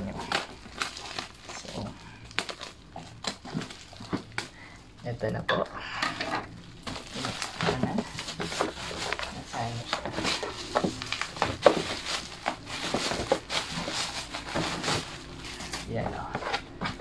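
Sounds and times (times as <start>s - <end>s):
bubble wrap crinkling and crackling: 0.0s - 17.0s.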